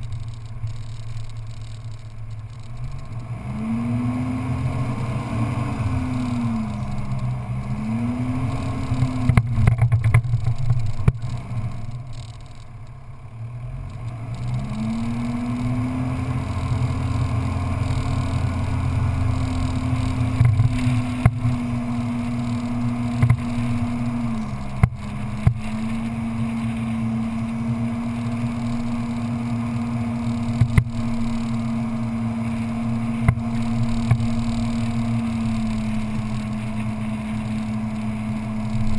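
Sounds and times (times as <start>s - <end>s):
off-road vehicle engine: 0.0s - 38.9s.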